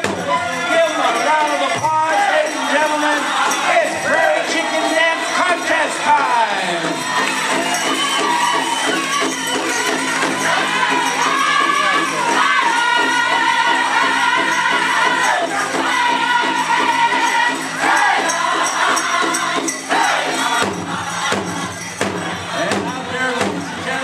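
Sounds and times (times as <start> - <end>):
voices singing high notes: 0.0 - 22.8
drum beating: 0.0 - 24.0.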